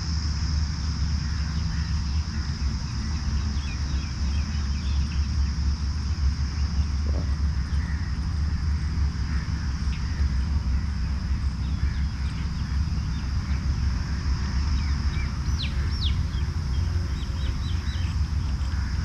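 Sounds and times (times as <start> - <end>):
high-pitched insect drone: 0.0 - 19.0
birds chirping: 0.1 - 19.0
downward-sweeping bird calls: 0.6 - 19.0.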